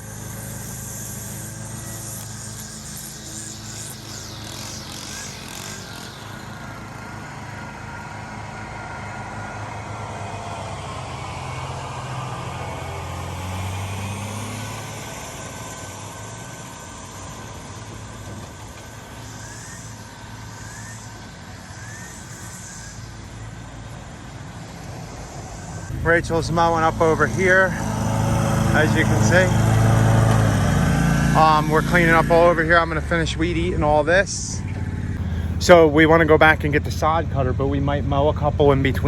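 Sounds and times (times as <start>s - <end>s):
lawn mower engine running: 0.0s - 39.0s.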